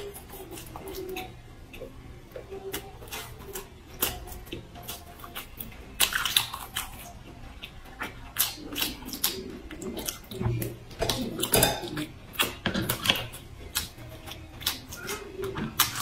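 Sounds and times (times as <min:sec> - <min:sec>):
person chewing crunchy food: 0:00.0 - 0:16.0.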